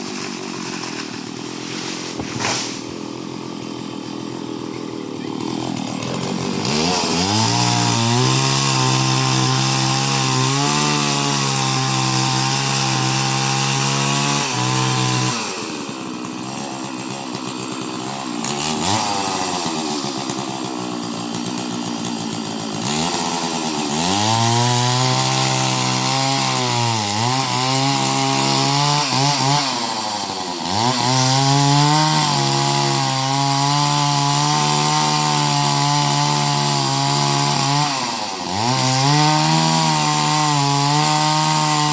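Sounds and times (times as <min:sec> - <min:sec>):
chainsaw cutting: 0:00.0 - 0:41.9.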